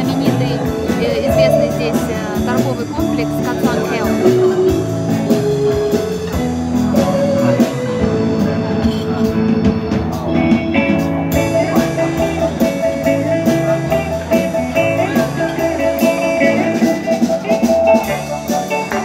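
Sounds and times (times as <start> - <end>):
drum kit beat: 0.0 - 19.0
electric guitar melody: 0.0 - 19.0.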